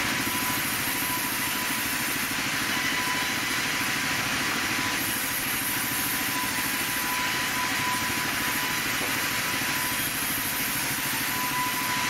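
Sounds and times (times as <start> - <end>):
band saw machinery drone: 0.0 - 12.0.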